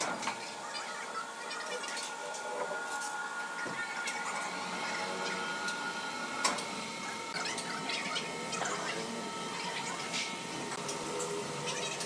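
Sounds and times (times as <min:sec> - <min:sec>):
sawmill machine hum: 0:00.0 - 0:12.0.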